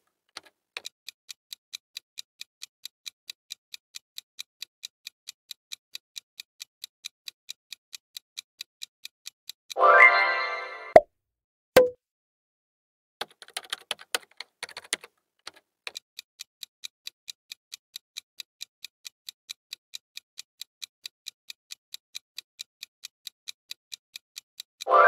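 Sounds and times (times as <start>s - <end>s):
irregular clicks: 0.0s - 9.7s, 13.2s - 24.9s
clock ticking: 0.0s - 9.9s, 14.8s - 25.0s.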